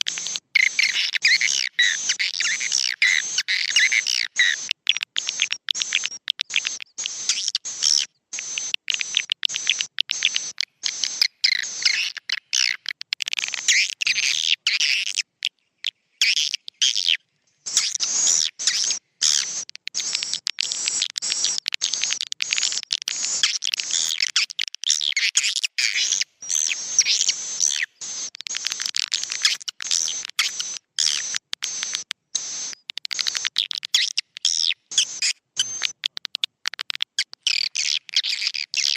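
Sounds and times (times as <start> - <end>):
swiftlets twittering: 0.0 - 13.0, 17.7 - 36.5.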